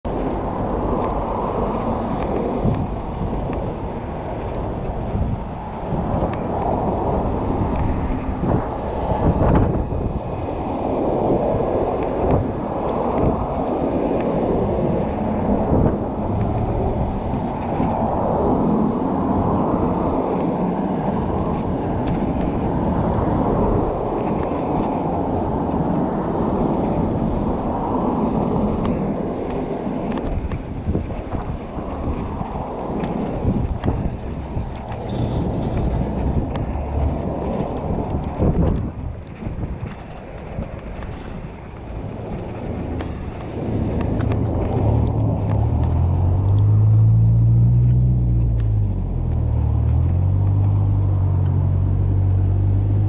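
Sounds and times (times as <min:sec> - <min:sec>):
scooter wheels rumbling on concrete: 0:00.1 - 0:53.0.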